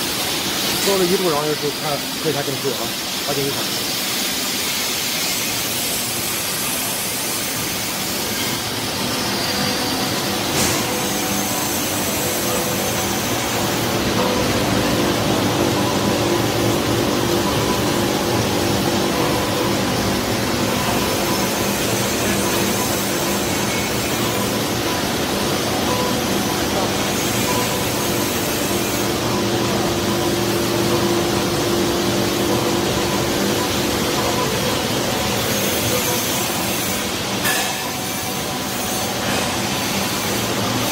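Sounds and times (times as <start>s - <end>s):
machinery whirring with low hum: 0.0s - 40.9s.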